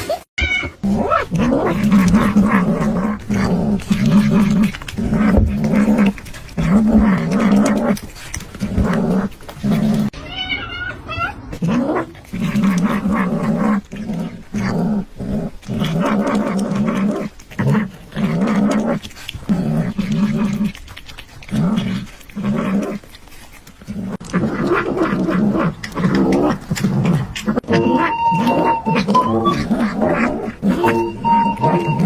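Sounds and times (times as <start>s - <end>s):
dog growling: 0.8s - 10.2s, 11.0s - 32.0s.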